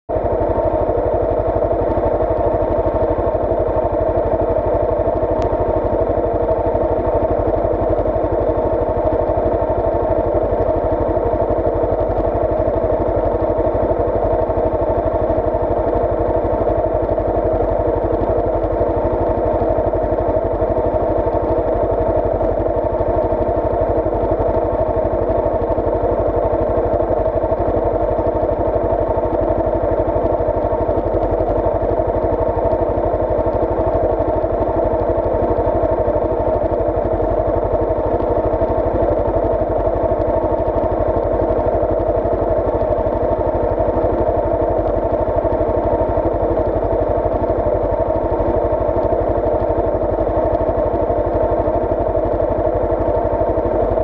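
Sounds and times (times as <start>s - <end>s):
engine idling: 0.1s - 54.0s.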